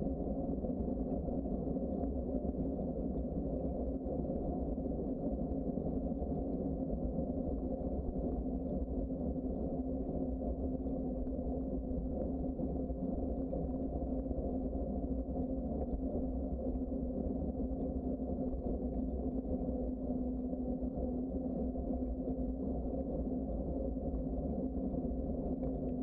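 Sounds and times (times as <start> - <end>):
constant low hum: 0.0 - 26.0.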